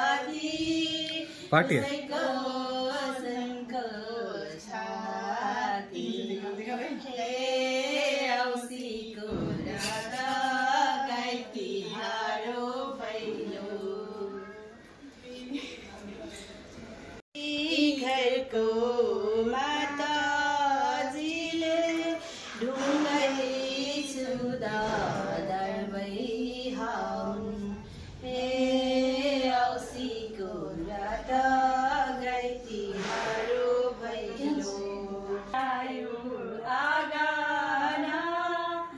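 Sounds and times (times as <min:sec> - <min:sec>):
voices singing folk song: 0:00.0 - 0:14.8, 0:17.4 - 0:38.9.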